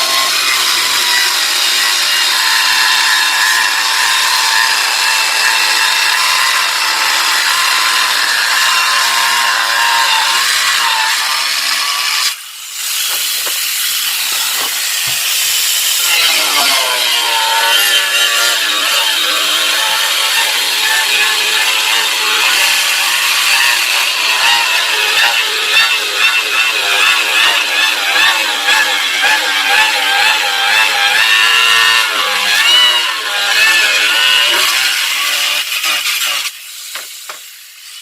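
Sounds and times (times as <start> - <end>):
tile saw cutting wood: 0.0 - 38.0.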